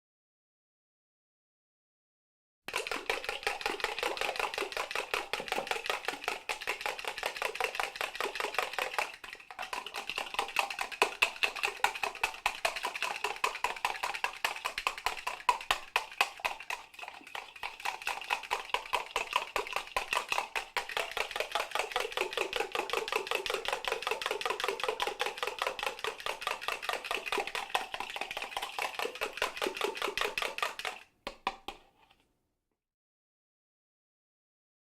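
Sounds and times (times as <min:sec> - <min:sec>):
eggs beaten in plastic bowl: 0:02.7 - 0:32.3.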